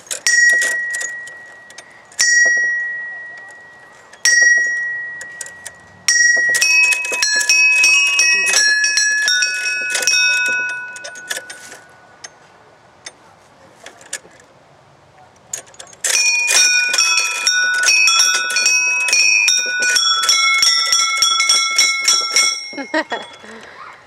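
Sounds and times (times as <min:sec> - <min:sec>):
metal chimes ringing: 0:00.0 - 0:12.5, 0:15.7 - 0:24.0.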